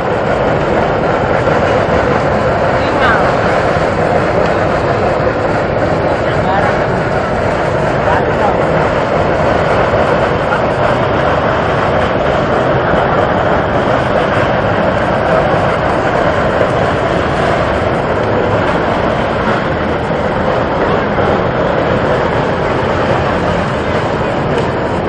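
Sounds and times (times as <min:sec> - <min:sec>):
mud and water jet rushing: 0:00.0 - 0:25.0.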